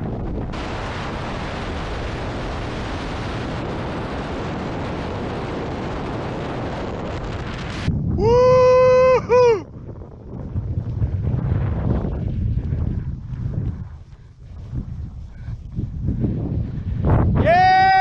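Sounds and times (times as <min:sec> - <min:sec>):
wind roaring over microphone: 0:00.0 - 0:18.0.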